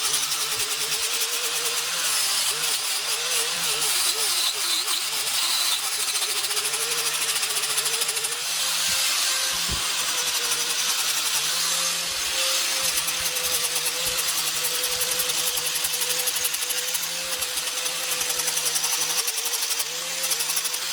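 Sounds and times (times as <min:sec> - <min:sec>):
grinder motor whine: 0:00.0 - 0:20.9
sandpaper hissing on wood: 0:00.0 - 0:20.9.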